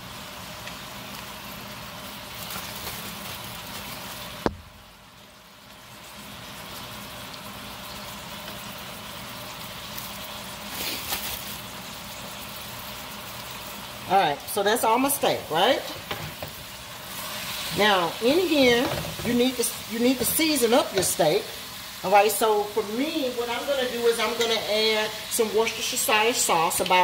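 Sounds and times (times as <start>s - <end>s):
meat and onions sizzling in pan: 0.0s - 27.0s.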